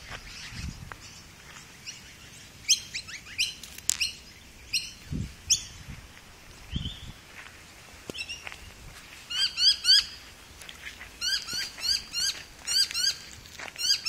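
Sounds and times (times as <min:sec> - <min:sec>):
bird chirping: 0:00.0 - 0:05.9, 0:06.6 - 0:07.2, 0:08.1 - 0:10.2, 0:11.2 - 0:14.0.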